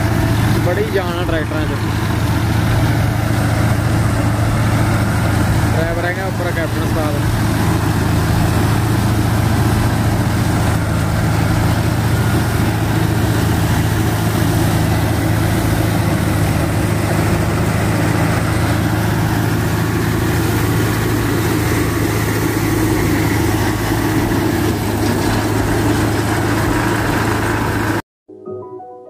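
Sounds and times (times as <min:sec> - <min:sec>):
reaper machine noise: 0:00.0 - 0:28.0
tractor diesel engine drone: 0:00.0 - 0:28.0.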